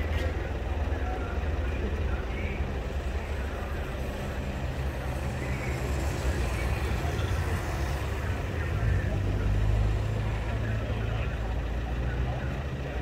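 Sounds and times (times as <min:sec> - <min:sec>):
vehicle engines droning: 0:00.0 - 0:13.0.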